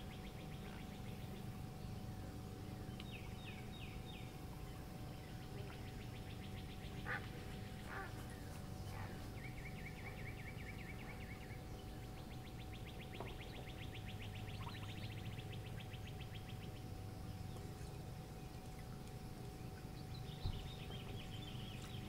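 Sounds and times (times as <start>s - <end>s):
birds calling faintly: 0.0s - 22.0s
steady low hum: 0.0s - 22.0s.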